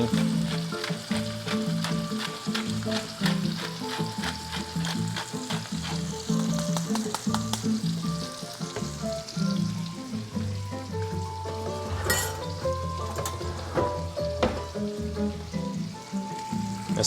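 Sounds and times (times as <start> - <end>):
fish sizzling in a skillet: 0.0 - 17.0
music with steady beat: 0.0 - 17.0.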